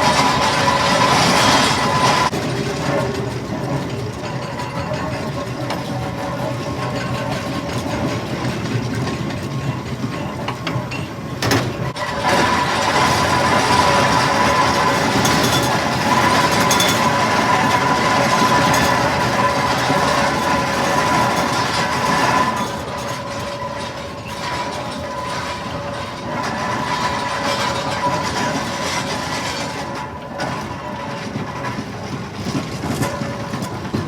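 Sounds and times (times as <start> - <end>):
steady mechanical whine: 0.0 - 34.0
steam engine clatter and rumble: 0.0 - 34.0.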